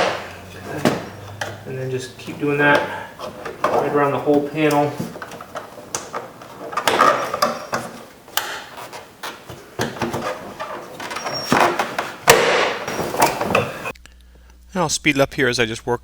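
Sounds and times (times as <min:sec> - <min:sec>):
panel scraping against door: 0:00.0 - 0:13.9.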